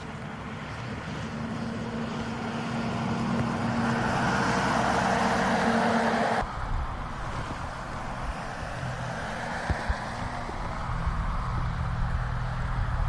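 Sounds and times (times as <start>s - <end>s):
outdoor background noise: 0.0s - 13.0s
road vehicle passing: 0.0s - 13.0s.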